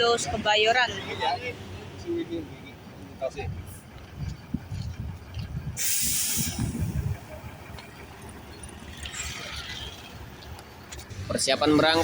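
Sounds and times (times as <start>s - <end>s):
diesel bus engine rumbling: 0.0s - 12.0s.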